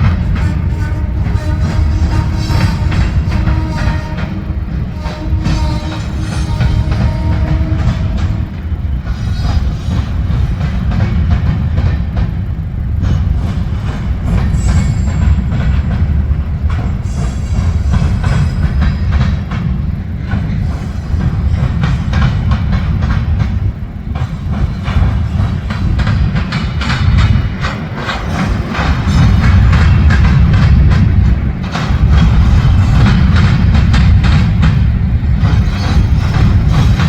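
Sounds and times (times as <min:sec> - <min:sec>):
train rumbling past: 0:00.0 - 0:37.0
wheels clicking over rail joints: 0:00.0 - 0:37.0.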